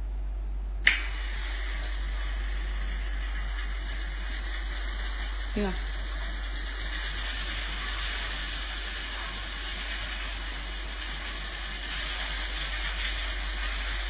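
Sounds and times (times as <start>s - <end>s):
steady hiss: 0.8s - 14.0s.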